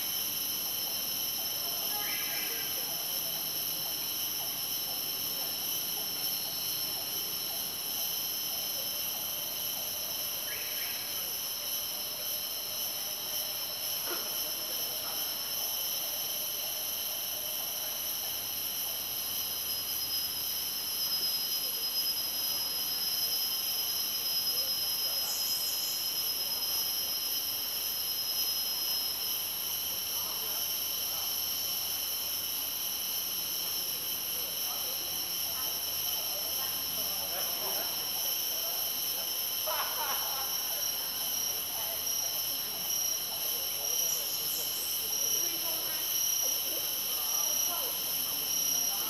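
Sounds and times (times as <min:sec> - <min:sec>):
high insect tone: 0:00.0 - 0:49.0
insects buzzing: 0:00.0 - 0:49.0
short insect chirps: 0:00.0 - 0:49.0.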